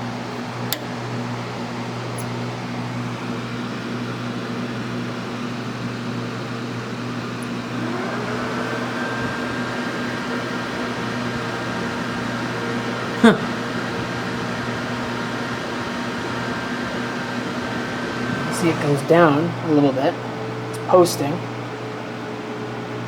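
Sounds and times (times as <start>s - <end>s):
computer fan hum: 0.0s - 23.0s
fan spinning up whine: 0.0s - 23.0s.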